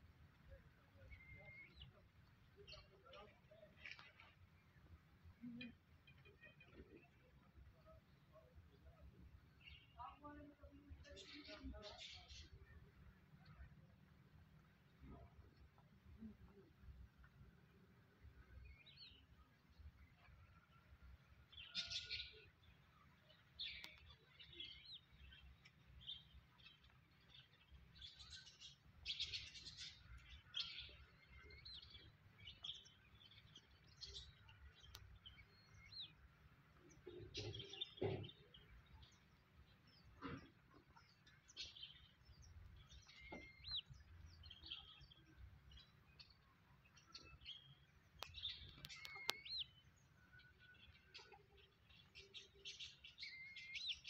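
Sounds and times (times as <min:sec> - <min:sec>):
faint bird chirping: 0:00.4 - 0:54.0.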